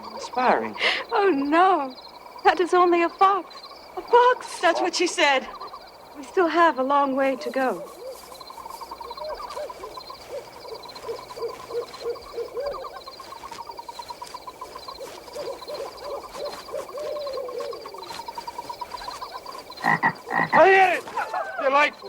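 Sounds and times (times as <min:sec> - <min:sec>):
night insects trilling: 0:00.0 - 0:22.0
owl hooting: 0:02.5 - 0:22.0.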